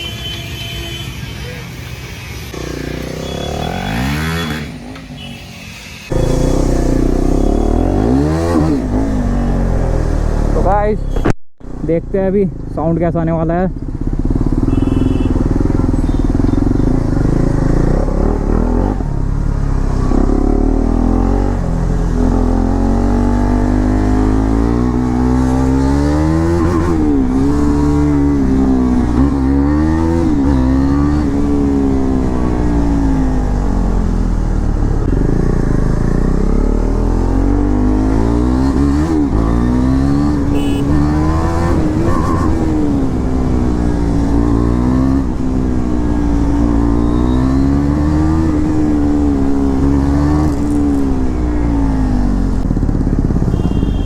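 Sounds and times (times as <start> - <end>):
motorcycle engine revving: 2.5 - 12.0, 13.1 - 54.0.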